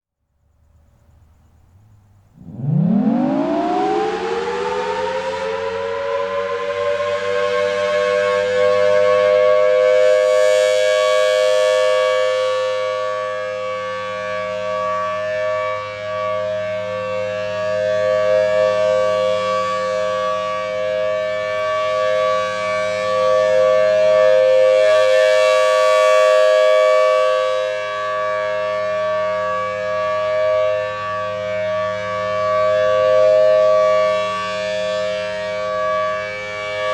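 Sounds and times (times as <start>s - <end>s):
two-tone rotating siren: 2.3s - 36.9s.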